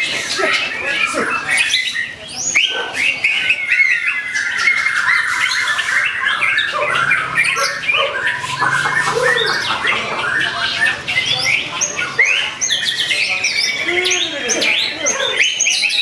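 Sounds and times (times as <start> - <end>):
bird singing chattering notes and whistles: 0.0 - 16.0.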